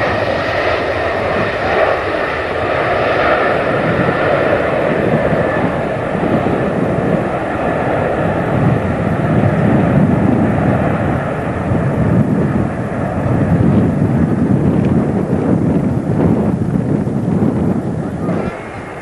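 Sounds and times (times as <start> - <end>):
airliner engines rumbling: 0.0 - 19.0.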